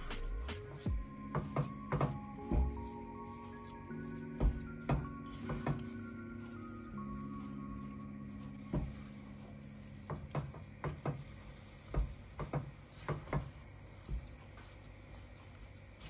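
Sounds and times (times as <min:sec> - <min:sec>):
thick dough being stirred: 0:00.0 - 0:16.0.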